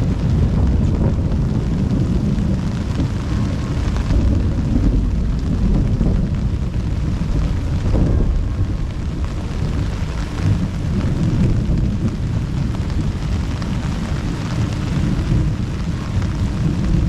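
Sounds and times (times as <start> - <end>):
heavy rain: 0.0 - 17.0
wind buffeting microphone: 0.0 - 17.0.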